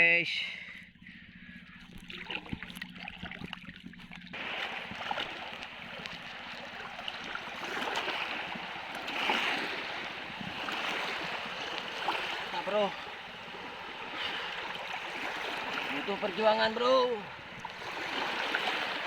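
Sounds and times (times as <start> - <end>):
seawater splashing: 0.6 - 19.0.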